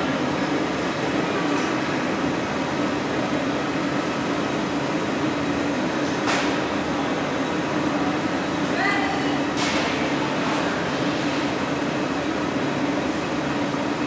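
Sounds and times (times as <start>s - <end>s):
furnaces and fans roaring: 0.0s - 14.0s.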